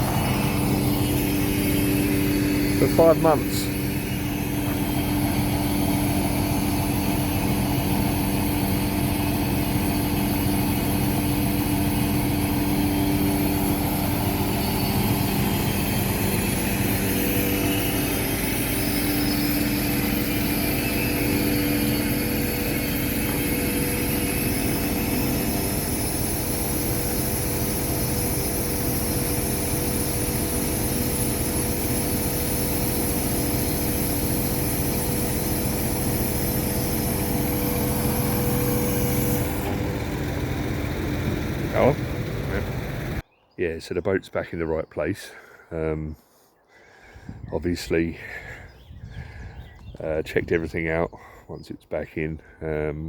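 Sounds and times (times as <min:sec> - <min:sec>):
boat engine running: 0:00.0 - 0:43.2.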